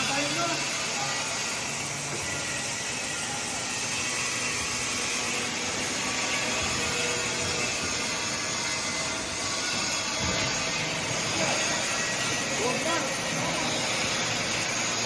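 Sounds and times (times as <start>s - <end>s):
laser cutting machine hissing: 0.0s - 15.0s.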